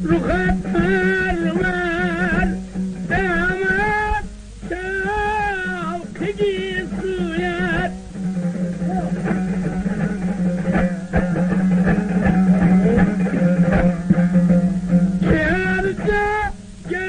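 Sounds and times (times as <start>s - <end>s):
person singing with vibrato: 0.0s - 17.0s
plucked string instrument: 0.0s - 17.0s.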